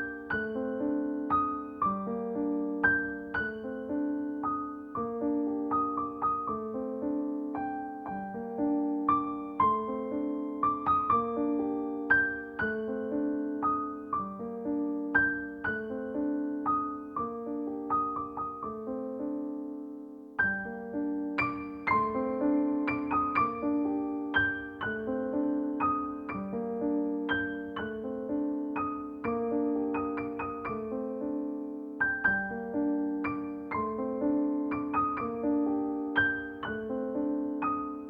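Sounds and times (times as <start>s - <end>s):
gentle solo piano piece: 0.0s - 38.0s.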